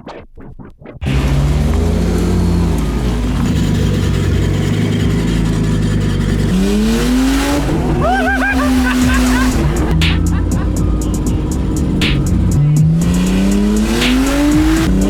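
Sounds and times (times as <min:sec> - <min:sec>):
car engine revving: 0:01.0 - 0:15.0.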